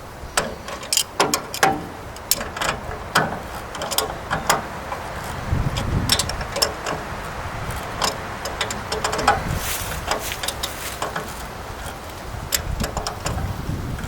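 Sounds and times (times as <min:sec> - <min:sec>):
low steady rumble: 0:00.0 - 0:14.0
small parts clicking and tapping: 0:00.4 - 0:14.0.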